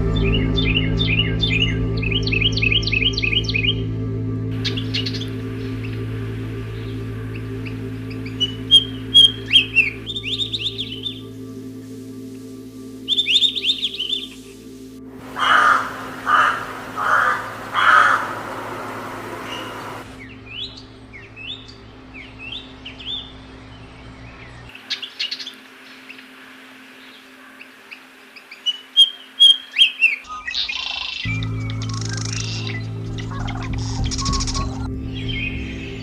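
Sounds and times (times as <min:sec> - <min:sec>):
soft music drone: 0:00.0 - 0:36.0
birds calling: 0:04.6 - 0:12.4, 0:13.0 - 0:36.0.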